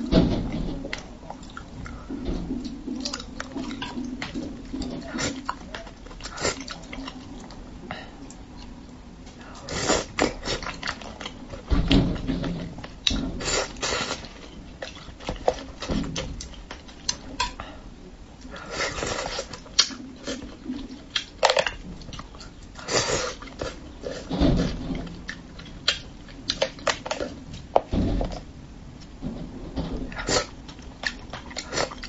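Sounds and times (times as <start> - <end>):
slurping: 0.0 - 17.8, 18.4 - 27.6, 30.0 - 32.0
wet chewing: 0.0 - 17.8, 18.4 - 29.2, 30.0 - 32.0
lip smacks: 0.8 - 17.8, 18.4 - 28.4, 30.1 - 32.0.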